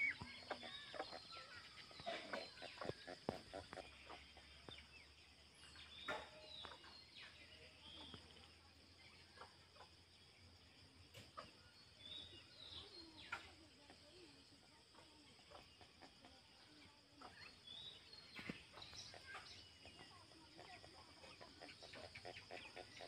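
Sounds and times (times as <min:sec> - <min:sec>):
chicken clucking softly: 0:00.0 - 0:23.0.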